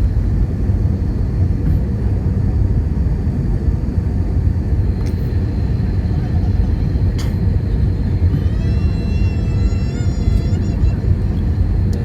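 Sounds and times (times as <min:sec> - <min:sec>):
jet engines roaring: 0:00.0 - 0:12.0
rushing air in cabin: 0:00.0 - 0:12.0.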